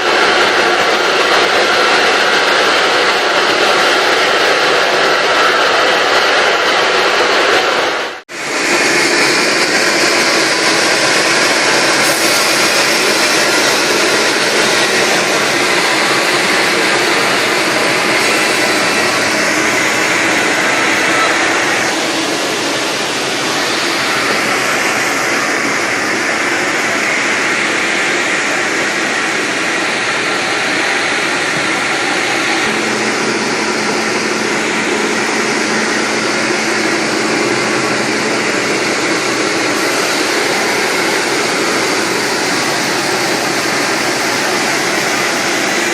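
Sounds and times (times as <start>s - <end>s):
sawmill sawing through log: 8.4s - 45.9s.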